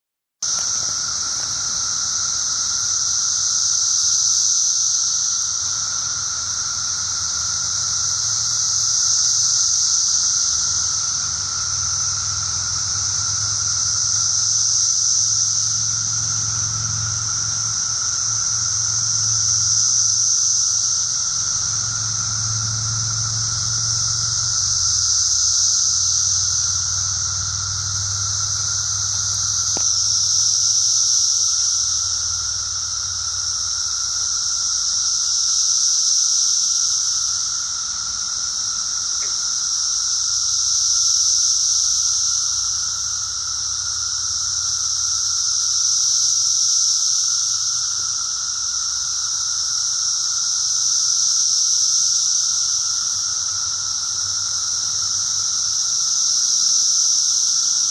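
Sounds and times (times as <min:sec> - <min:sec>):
cicadas droning: 0:00.4 - 0:57.9.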